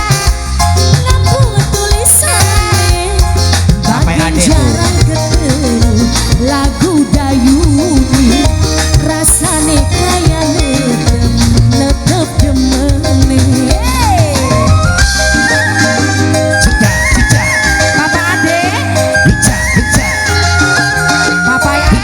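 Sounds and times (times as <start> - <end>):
live band music: 0.0 - 22.0.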